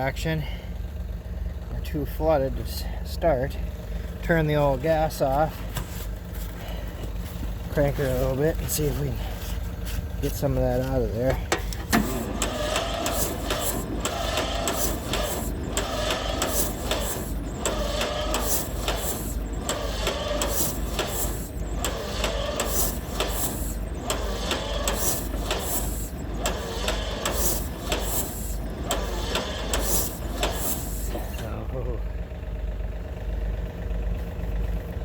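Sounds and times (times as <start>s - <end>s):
tractor engine cranking: 0.0s - 34.0s
steady low hum: 0.0s - 35.0s.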